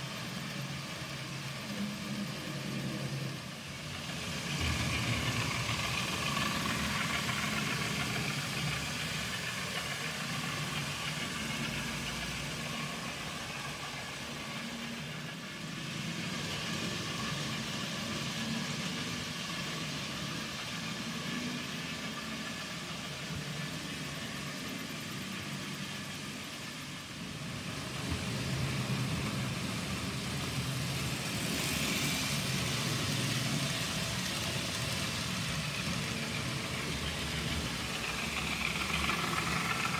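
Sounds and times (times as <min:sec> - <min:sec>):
small electric motors whining: 0:00.0 - 0:39.9
wheels rumbling on track: 0:00.0 - 0:39.9.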